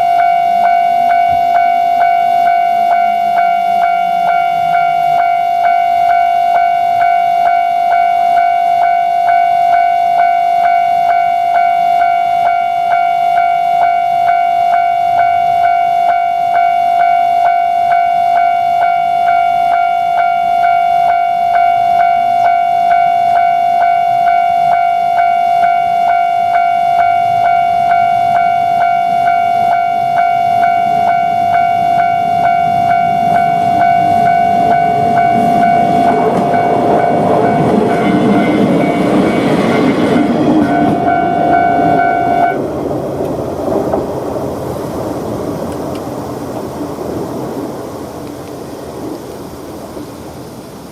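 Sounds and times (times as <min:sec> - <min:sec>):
level-crossing alarm ringing: 0:00.0 - 0:42.7
approaching train rumble: 0:00.0 - 0:50.9.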